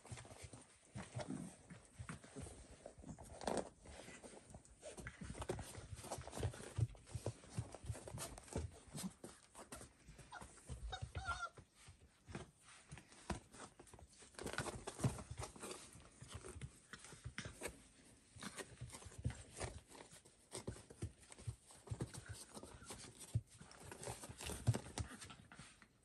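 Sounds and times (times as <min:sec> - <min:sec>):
puppies scuffling and knocking: 0:00.0 - 0:26.0
puppies' paws pattering: 0:00.0 - 0:26.0.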